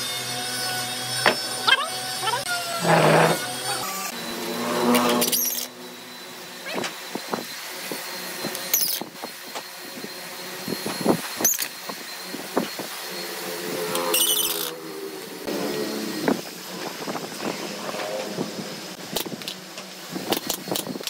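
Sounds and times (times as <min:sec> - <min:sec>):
cordless drill motor whining: 0:00.0 - 0:21.0.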